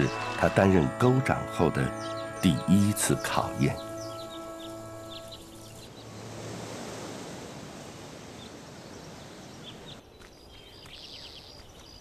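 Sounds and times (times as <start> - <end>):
small birds chirping: 0.0 - 6.4, 7.3 - 12.0.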